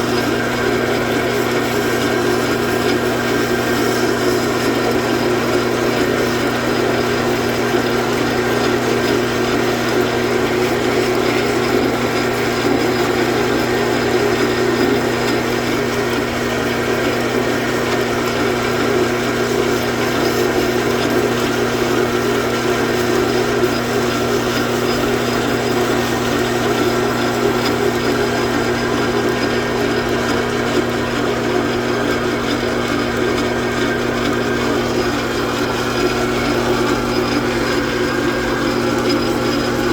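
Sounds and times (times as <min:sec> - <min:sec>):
metal lathe cutting: 0:00.0 - 0:39.9.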